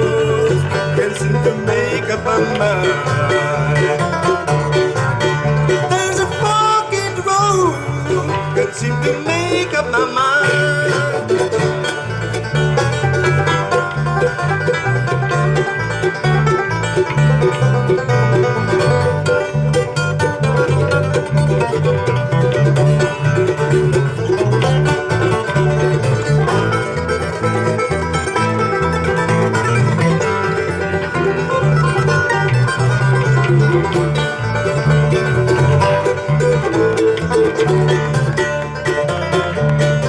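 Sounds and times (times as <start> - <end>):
bluegrass band playing: 0.0 - 40.0.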